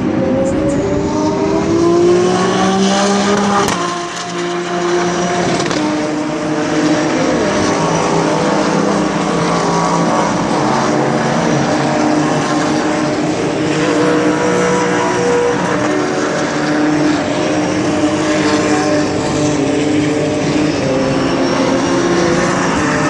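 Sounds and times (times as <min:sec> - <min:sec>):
race car engines at speed: 0:00.0 - 0:23.0.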